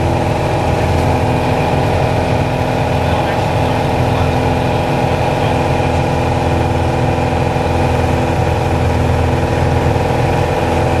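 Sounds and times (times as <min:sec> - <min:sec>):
airplane engine and propeller drone: 0:00.0 - 0:11.0.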